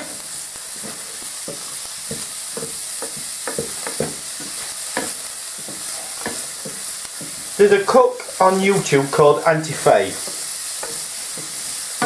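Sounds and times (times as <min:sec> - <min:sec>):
onions sizzling in frying pan: 0:00.0 - 0:12.0.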